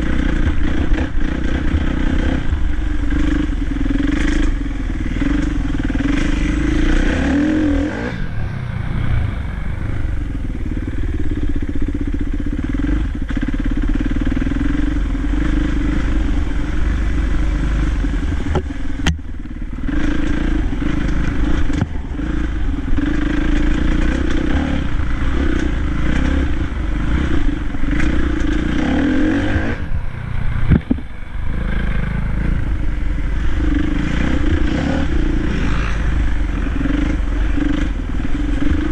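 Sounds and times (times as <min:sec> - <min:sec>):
dirt bike engine revving: 0:00.0 - 0:30.7, 0:31.4 - 0:38.9.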